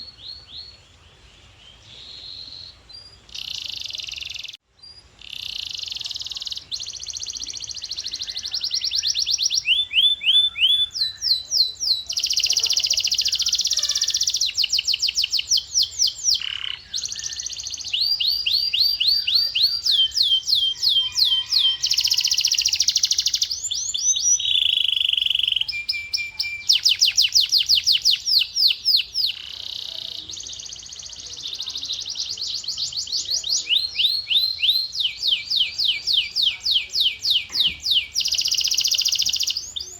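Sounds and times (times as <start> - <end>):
canary singing trills: 1.8 - 39.9.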